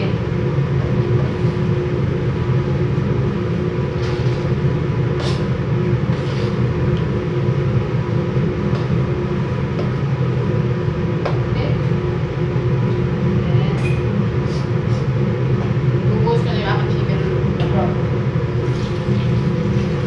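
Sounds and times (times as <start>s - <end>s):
range hood fan humming: 0.0s - 20.0s.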